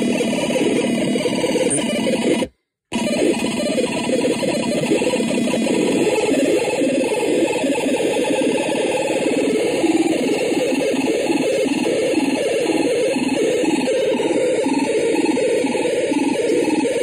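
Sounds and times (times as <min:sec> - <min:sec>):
harsh electronic noise: 0:00.0 - 0:17.0.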